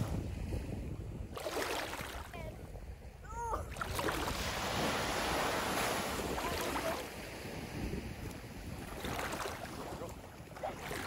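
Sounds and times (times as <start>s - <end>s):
small waves washing onto beach: 0.0s - 11.0s
wind on microphone: 0.0s - 11.0s.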